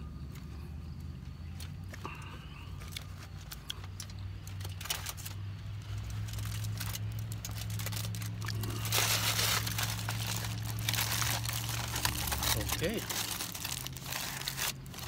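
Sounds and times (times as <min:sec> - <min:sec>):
low steady hum: 0:00.0 - 0:15.0
aluminium foil crinkling: 0:02.8 - 0:15.0.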